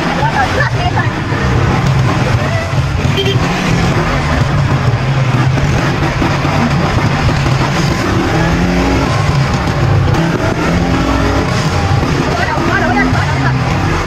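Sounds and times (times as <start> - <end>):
small off-road engine running: 0.0 - 14.0.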